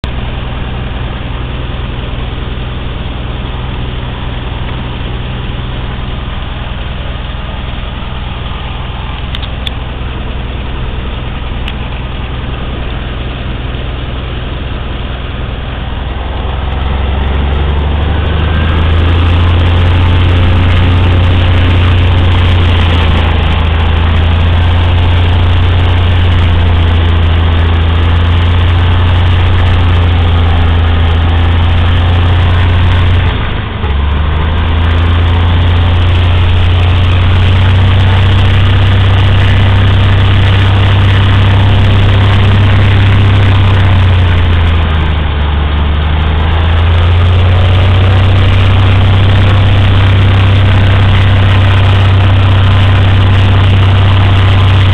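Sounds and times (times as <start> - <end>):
airplane engine and propeller: 0.0 - 54.9.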